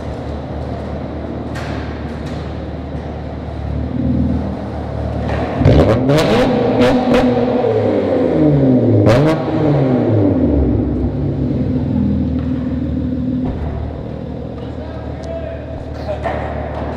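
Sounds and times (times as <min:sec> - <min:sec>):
car engine revving: 0:00.0 - 0:16.0
car engine idling: 0:00.0 - 0:16.9
exhaust cracks: 0:00.0 - 0:16.9.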